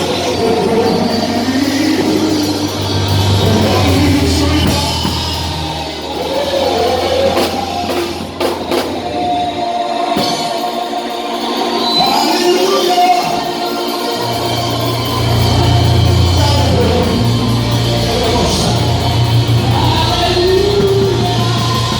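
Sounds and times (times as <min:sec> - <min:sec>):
music with singing: 0:00.0 - 0:21.9.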